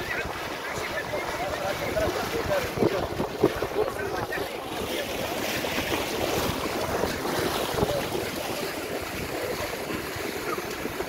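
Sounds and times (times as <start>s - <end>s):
feet splashing through water: 0.0s - 11.0s
wind buffeting microphone: 0.0s - 11.0s.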